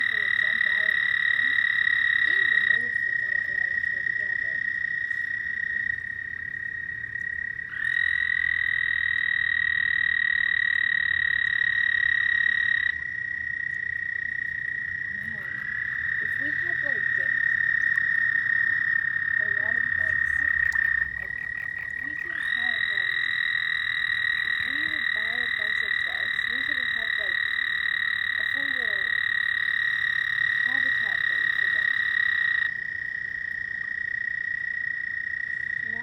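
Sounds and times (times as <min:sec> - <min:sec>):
frog chorus: 0:00.0 - 0:36.0
frog high-pitched trills: 0:00.0 - 0:36.0.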